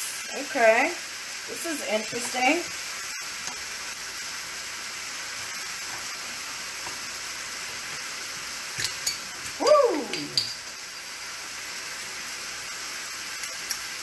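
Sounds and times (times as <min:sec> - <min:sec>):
stir-fry sizzling in a wok: 0:00.0 - 0:14.0.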